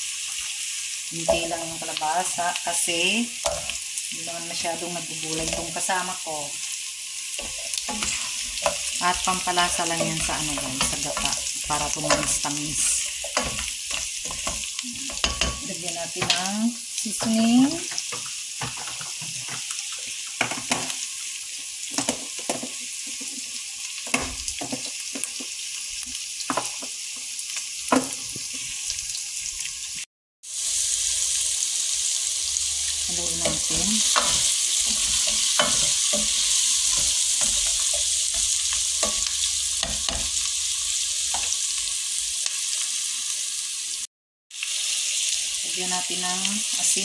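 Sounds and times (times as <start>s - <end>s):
vegetables sizzling in hot oil: 0.0s - 47.0s.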